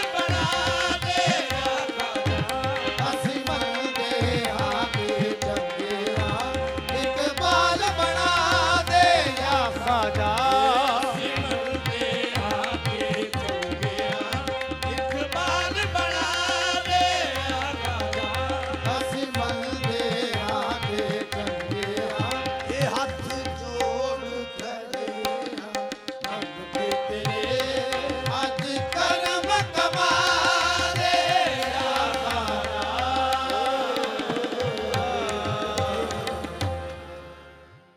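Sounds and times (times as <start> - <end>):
voices singing: 0.0 - 25.7, 26.3 - 37.2
tabla drumming: 0.0 - 37.5
harmonium held note: 0.0 - 37.9.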